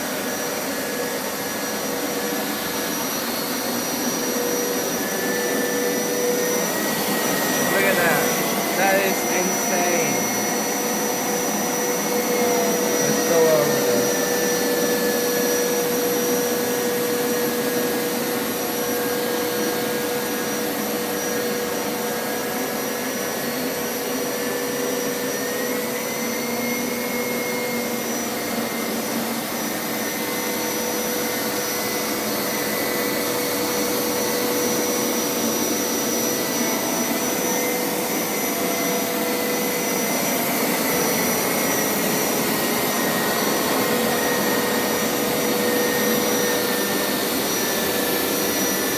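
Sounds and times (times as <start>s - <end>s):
carpet washer motor whine: 0.0s - 48.9s.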